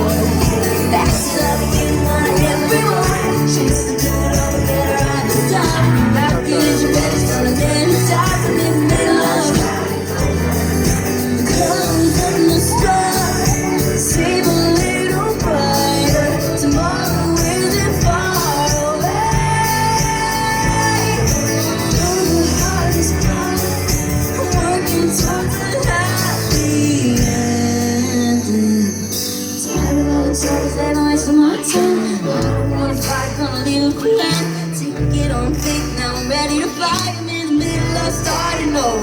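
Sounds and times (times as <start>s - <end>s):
live pop band playing: 0.0s - 39.0s
person singing: 0.0s - 39.0s.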